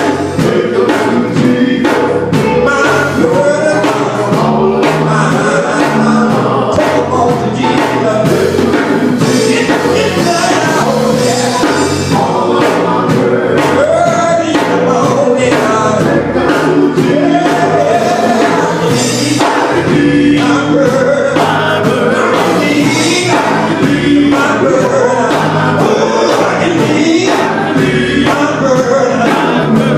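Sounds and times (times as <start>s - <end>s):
bass line: 0.0s - 29.9s
drum hits: 0.0s - 29.9s
gospel group singing: 0.0s - 29.9s.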